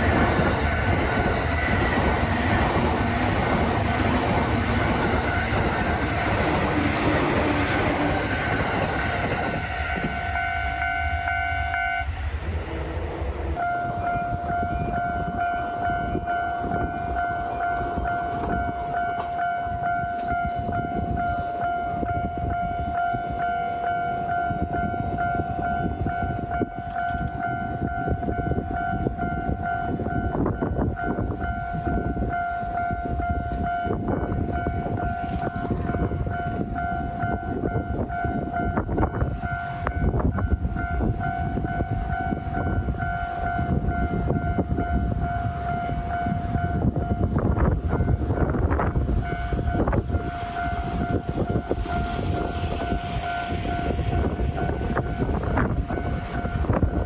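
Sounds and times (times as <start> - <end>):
train wheels clacking on rails: 0.0 - 12.1, 13.1 - 57.0
train rumble: 0.0 - 57.0.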